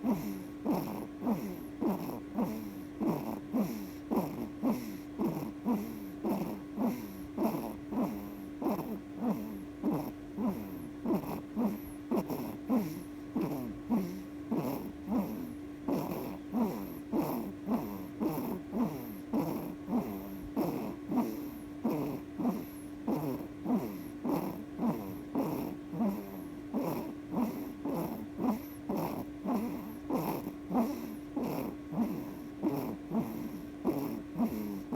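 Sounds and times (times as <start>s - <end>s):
baby snoring: 0.0s - 34.9s
constant hum: 0.0s - 34.9s.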